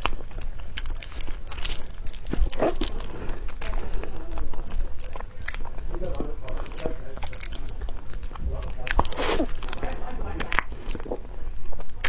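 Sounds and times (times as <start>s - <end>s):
chewing and biting: 0.0s - 12.0s
mouth clicks and crackles: 0.0s - 12.0s.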